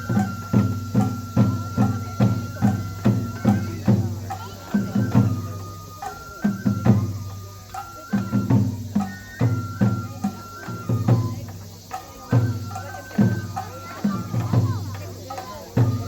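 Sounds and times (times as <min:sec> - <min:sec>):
bamboo flute held notes: 0:00.0 - 0:16.0
taiko drums: 0:00.0 - 0:16.0.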